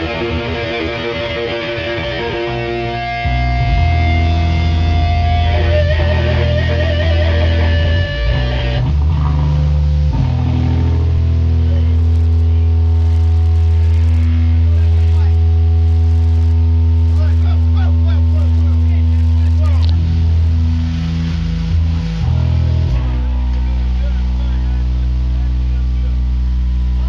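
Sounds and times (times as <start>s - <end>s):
guitar sustained notes: 0.0s - 27.0s
loud deep bass: 0.0s - 27.0s.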